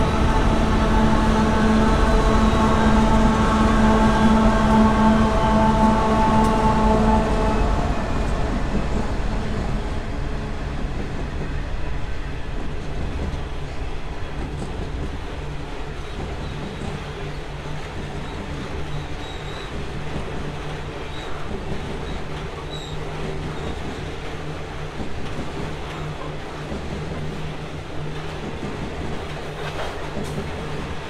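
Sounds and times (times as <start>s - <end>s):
diesel locomotive engines droning: 0.0s - 31.0s
freight wagons rumbling on rails: 0.0s - 31.0s.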